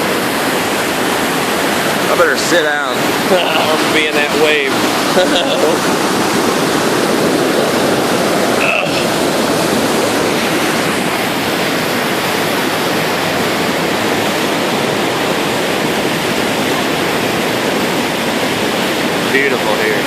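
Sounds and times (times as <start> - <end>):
whitewater rapids roaring: 0.0 - 20.0.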